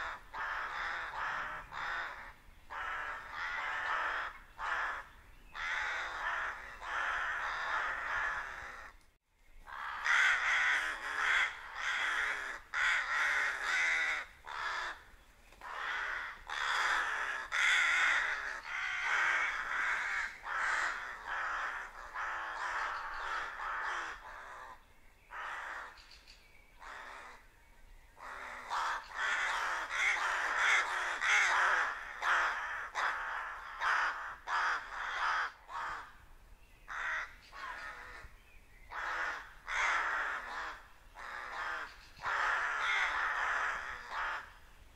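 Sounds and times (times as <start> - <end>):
rooks cawing: 0.0 - 9.0, 9.7 - 26.0, 26.8 - 27.4, 28.2 - 36.2, 36.9 - 38.3, 38.9 - 44.7.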